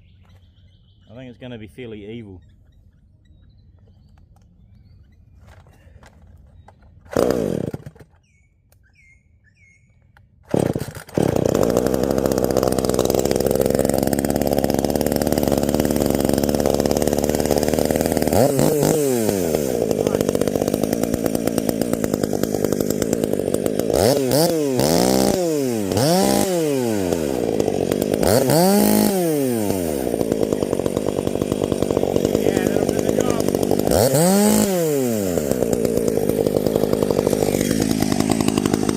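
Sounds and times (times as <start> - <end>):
chainsaw engine revving: 5.4 - 8.3, 10.4 - 38.9
chainsaw starter pull: 5.4 - 8.4, 10.4 - 38.9.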